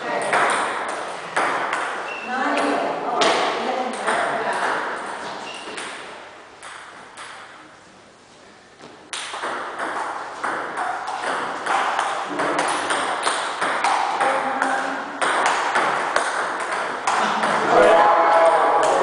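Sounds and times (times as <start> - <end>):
table tennis ball clicking and bouncing: 0.2 - 7.6, 9.1 - 17.7.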